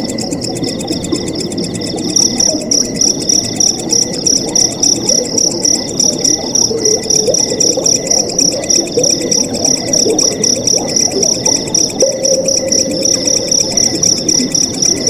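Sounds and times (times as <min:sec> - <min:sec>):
crickets chirping: 0:00.0 - 0:15.0
insects trilling: 0:00.0 - 0:15.0.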